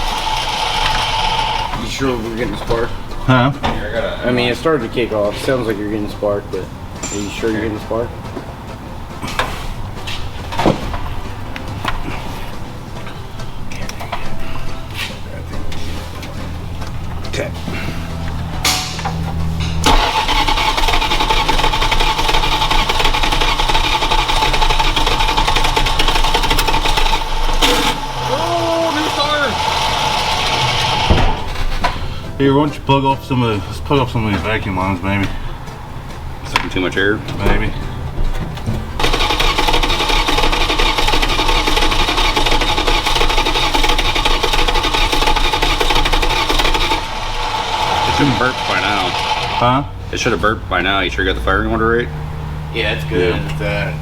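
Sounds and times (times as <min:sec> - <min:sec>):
starter motor cranking engine: 0:00.0 - 0:54.0.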